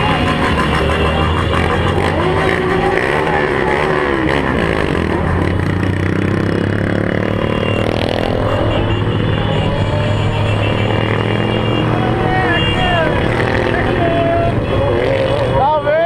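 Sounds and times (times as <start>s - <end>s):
motorcycle accelerating: 0.0s - 16.0s
motorcycle engines revving: 0.0s - 16.0s.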